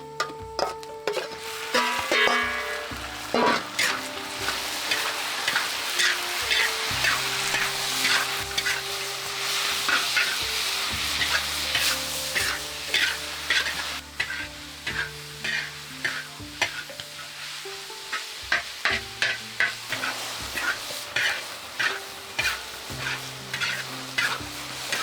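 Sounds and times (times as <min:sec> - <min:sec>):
food sizzling in a pan: 0:00.0 - 0:25.0
soft background music: 0:00.0 - 0:25.0
utensil scraping a pan: 0:00.0 - 0:25.0.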